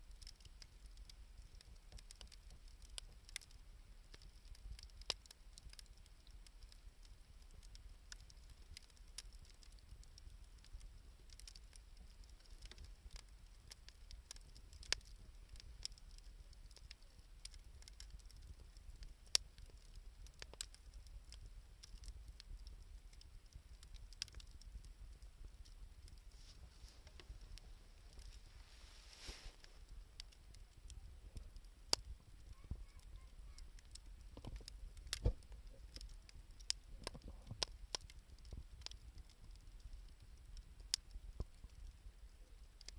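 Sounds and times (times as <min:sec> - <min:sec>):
fire snapping: 0:00.0 - 0:42.9
wood fire crackling: 0:00.0 - 0:42.9.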